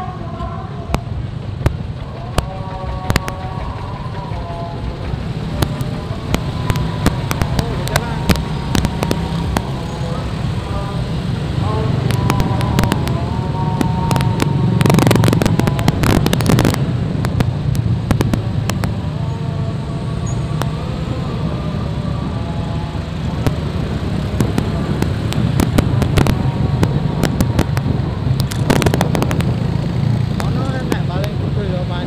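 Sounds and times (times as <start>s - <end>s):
motorcycle engines droning: 0.0s - 32.0s
sharp crackling burst: 0.9s - 10.6s, 11.2s - 19.2s, 23.3s - 32.0s.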